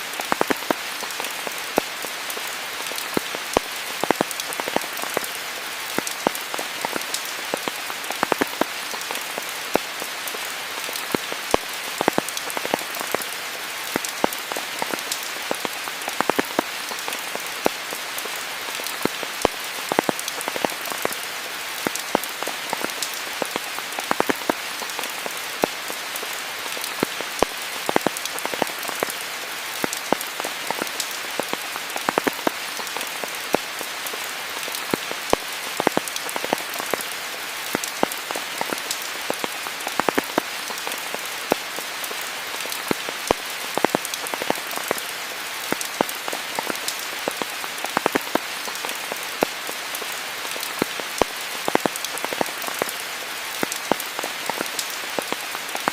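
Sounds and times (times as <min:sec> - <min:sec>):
rain hiss: 0:00.0 - 0:55.9
close raindrop impacts: 0:00.1 - 0:55.9.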